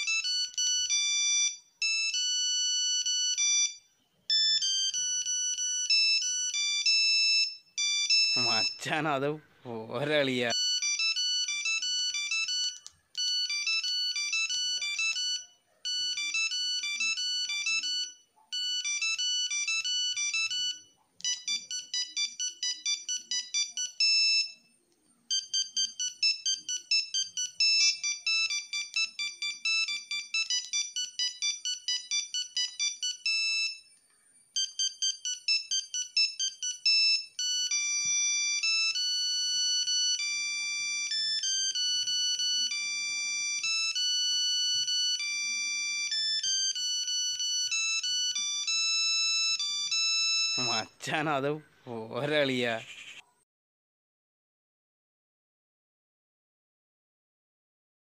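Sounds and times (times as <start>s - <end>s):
phone ringtone beeps: 0.0s - 51.6s.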